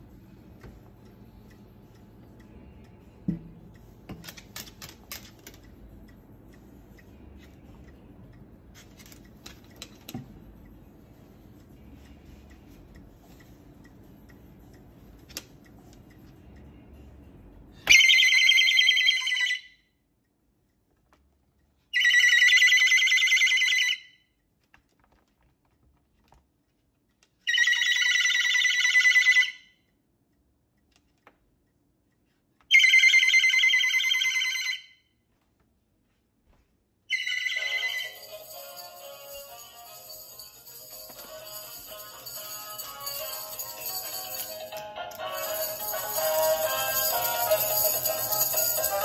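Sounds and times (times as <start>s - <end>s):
faint room noise: 0.0s - 49.0s.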